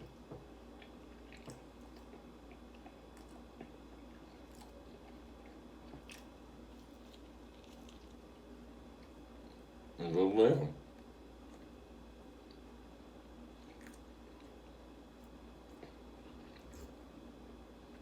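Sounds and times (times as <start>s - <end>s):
low steady hum: 0.0s - 18.0s
chewing soft food: 0.1s - 9.7s, 10.9s - 18.0s.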